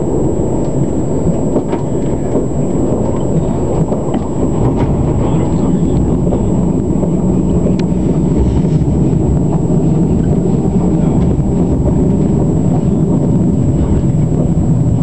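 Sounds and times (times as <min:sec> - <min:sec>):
train running low rumble: 0:00.0 - 0:15.0.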